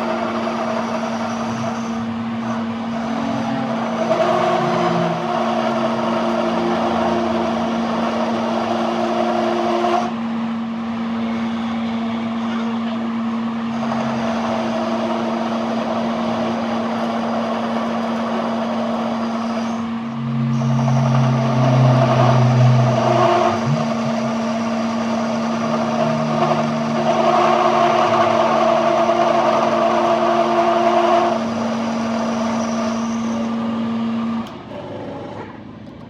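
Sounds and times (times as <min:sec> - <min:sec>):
machinery humming: 0:00.0 - 0:36.0.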